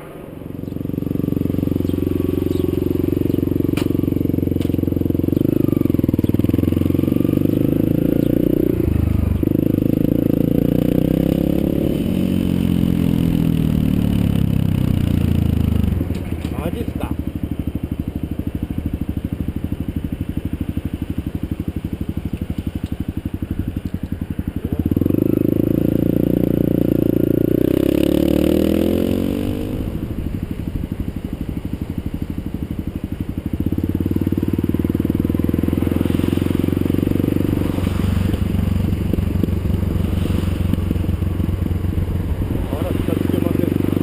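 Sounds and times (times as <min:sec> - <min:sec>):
vehicle engine accelerating: 0:00.0 - 0:44.0.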